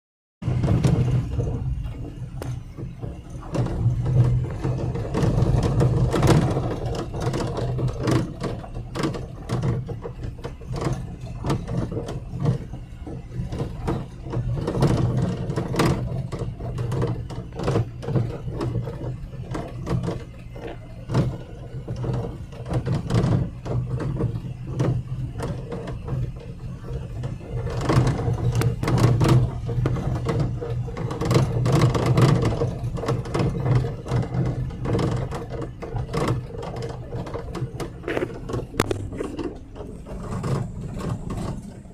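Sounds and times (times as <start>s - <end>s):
car steering rattling: 0.4s - 41.9s
engine hum: 0.4s - 41.9s.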